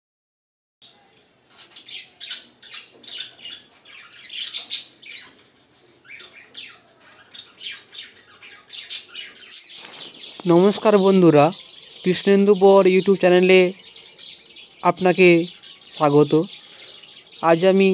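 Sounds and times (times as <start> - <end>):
finches chirping: 0.8 - 17.9.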